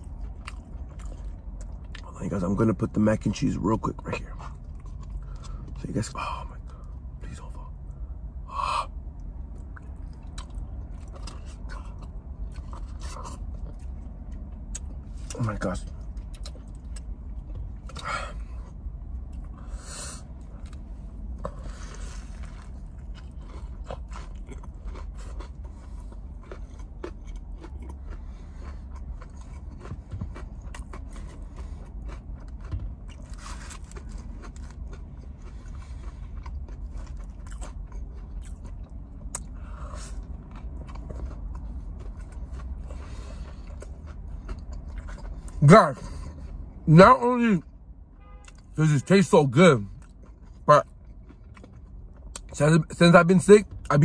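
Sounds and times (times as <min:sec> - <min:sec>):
person chewing crispy chicken: 0:00.0 - 0:46.6, 0:49.8 - 0:52.6.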